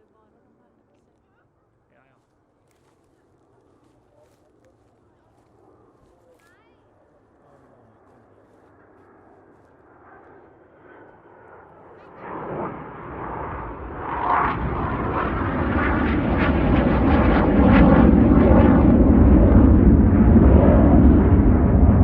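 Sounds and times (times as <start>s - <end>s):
jet engines approaching: 1.8s - 22.0s.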